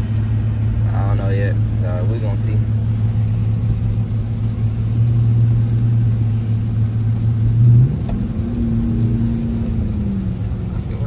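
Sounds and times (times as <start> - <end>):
car engine hum: 0.0 - 11.0
road noise inside car: 0.0 - 11.0.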